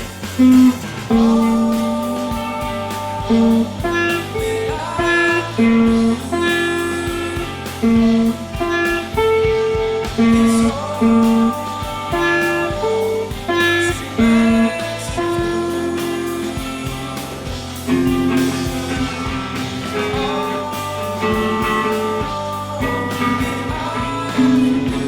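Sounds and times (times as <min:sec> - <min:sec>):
guitar melody: 0:00.0 - 0:25.0
low bass line: 0:00.0 - 0:25.0.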